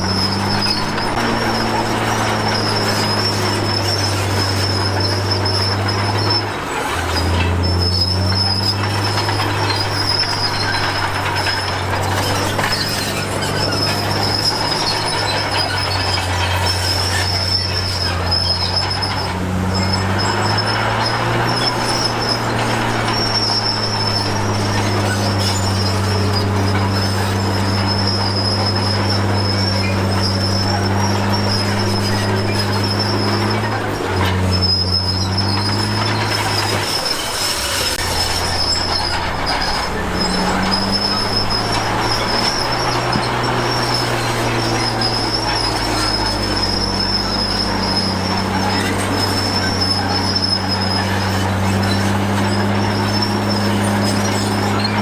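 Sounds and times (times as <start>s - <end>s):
bulldozer diesel engine: 0.0s - 55.0s
steel tracks squealing: 0.0s - 55.0s.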